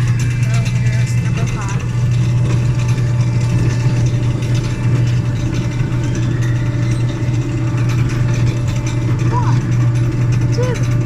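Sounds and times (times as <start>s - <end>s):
ride train mechanical hum and rattle: 0.0s - 11.0s.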